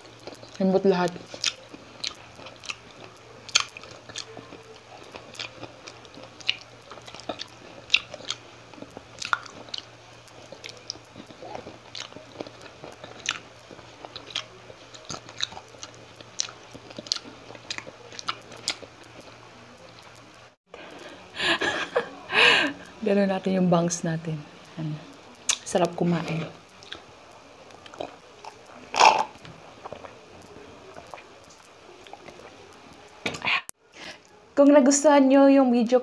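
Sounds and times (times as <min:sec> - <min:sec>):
chewing with crisp crunches: 0:00.0 - 0:21.0, 0:25.1 - 0:34.4.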